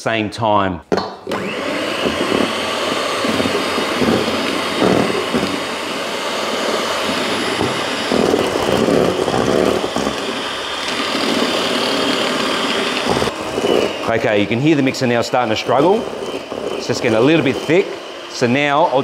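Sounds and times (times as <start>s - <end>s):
electric mixer whisking in a bowl: 1.3s - 19.0s.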